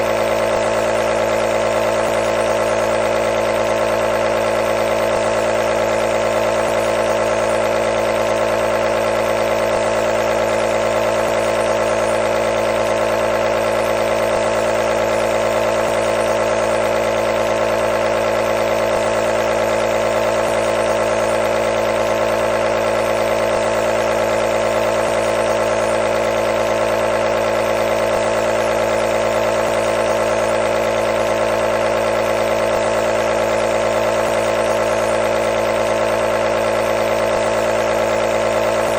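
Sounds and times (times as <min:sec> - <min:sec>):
compressor motor humming: 0:00.0 - 0:38.9.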